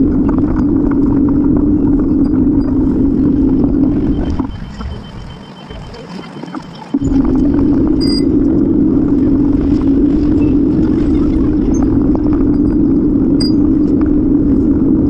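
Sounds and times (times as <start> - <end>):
wind noise: 0.0 - 6.0, 6.9 - 15.0
bicycle riding rumble: 0.0 - 15.0.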